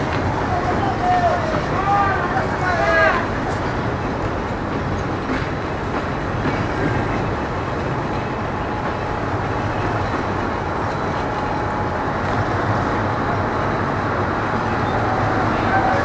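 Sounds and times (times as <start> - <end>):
locomotive and wheels rumbling: 0.0 - 16.0.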